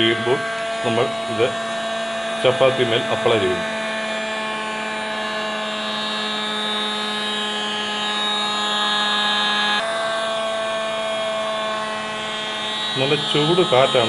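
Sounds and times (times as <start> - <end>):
hot air gun whining: 0.0 - 14.0.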